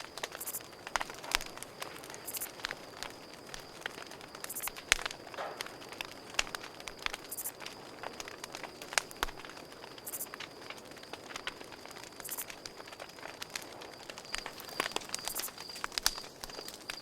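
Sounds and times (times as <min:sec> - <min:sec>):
campfire crackling and popping: 0:00.0 - 0:17.0
high cricket trill: 0:00.0 - 0:17.0.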